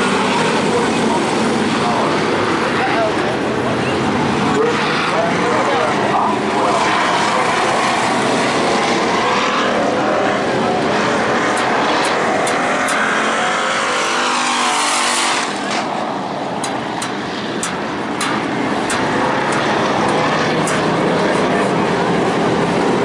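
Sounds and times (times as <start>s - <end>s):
race car engines droning: 0.0s - 23.0s.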